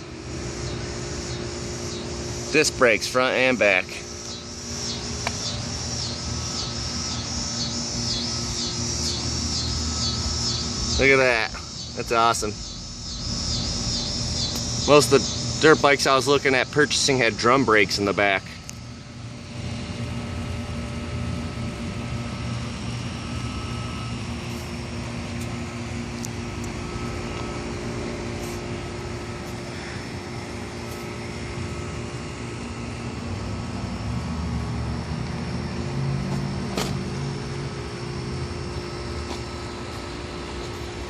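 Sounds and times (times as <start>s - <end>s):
mechanical hum with low rumble: 0.0s - 41.0s.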